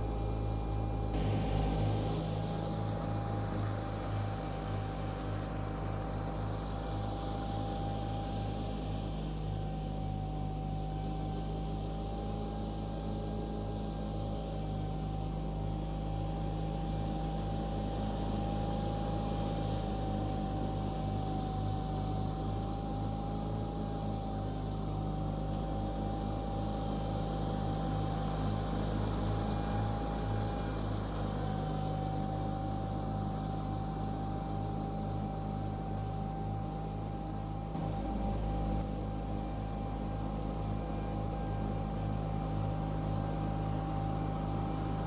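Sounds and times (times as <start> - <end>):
mower deck whine: 0.0 - 10.2, 17.2 - 45.0
garden tractor engine running: 0.0 - 45.0.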